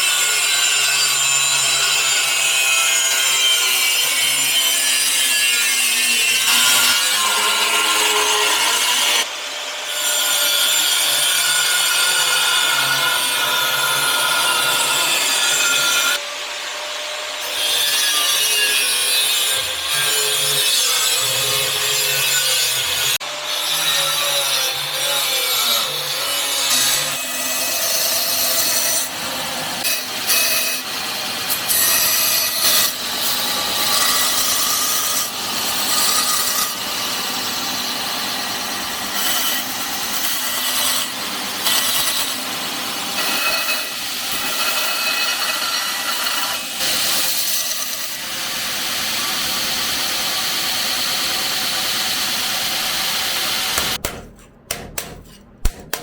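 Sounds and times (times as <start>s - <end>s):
tool grinding steel: 0.0s - 16.2s, 17.4s - 56.0s.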